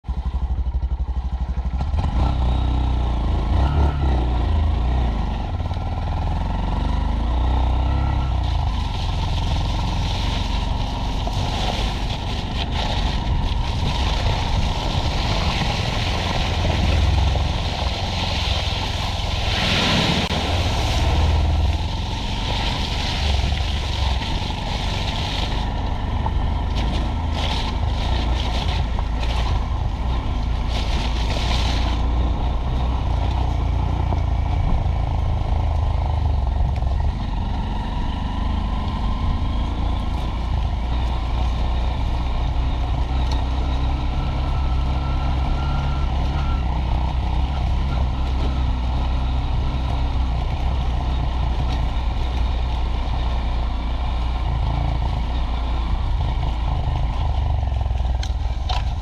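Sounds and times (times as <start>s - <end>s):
motorcycle engine running: 0.0s - 59.0s
tyre and wind noise: 6.0s - 59.0s.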